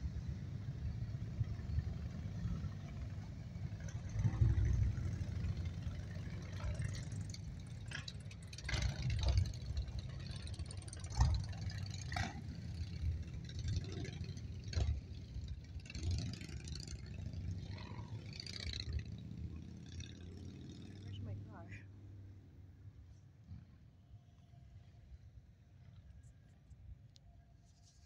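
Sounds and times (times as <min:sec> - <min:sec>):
motorcycles riding past: 0:00.0 - 0:22.9
car engines: 0:00.0 - 0:28.0.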